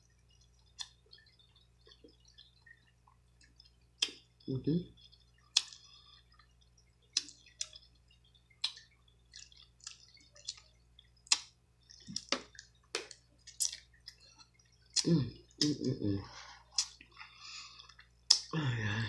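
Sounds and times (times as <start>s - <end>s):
wet clicks: 0.3s - 15.9s, 16.7s - 17.2s, 17.8s - 18.5s.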